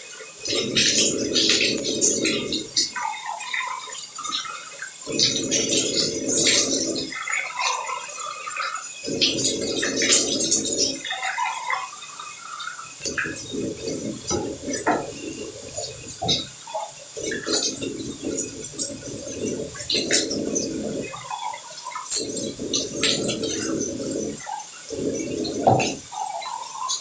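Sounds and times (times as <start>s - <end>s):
water splashing and trickling: 0.0s - 27.0s
low gurgling rush: 0.2s - 27.0s.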